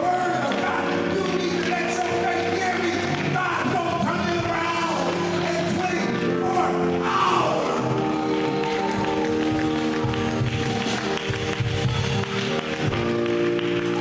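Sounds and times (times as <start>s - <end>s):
held organ chords: 0.0s - 14.0s.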